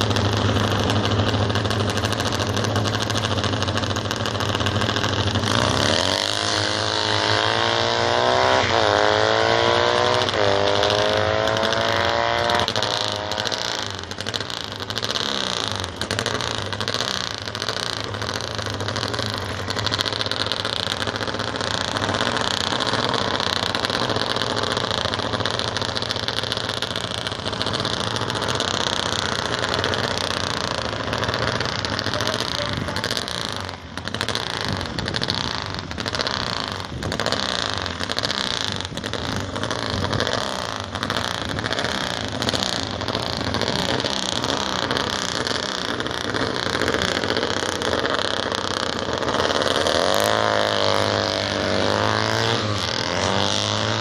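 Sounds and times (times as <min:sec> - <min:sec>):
racing motorcycle engines: 0:00.0 - 0:54.0.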